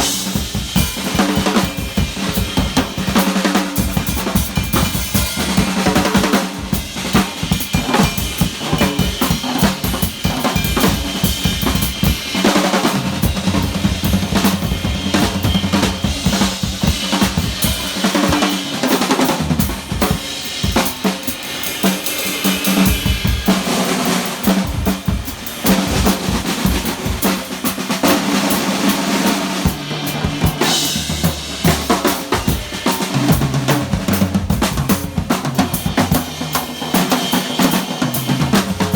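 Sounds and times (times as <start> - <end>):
drum kits playing: 0.0 - 38.9.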